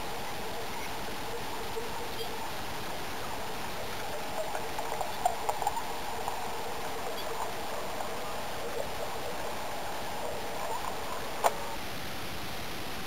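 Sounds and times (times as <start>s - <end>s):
model train rolling on track: 0.0s - 11.8s.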